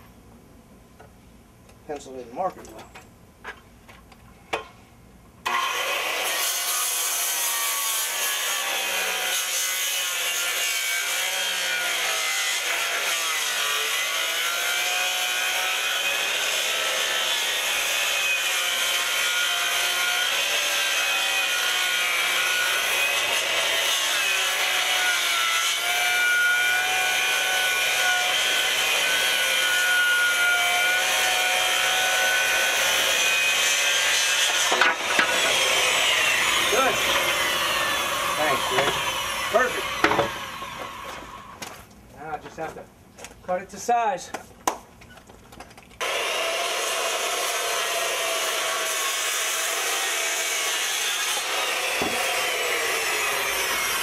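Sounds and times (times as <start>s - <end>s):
electric saw cutting wood: 5.4s - 41.6s, 46.0s - 54.0s.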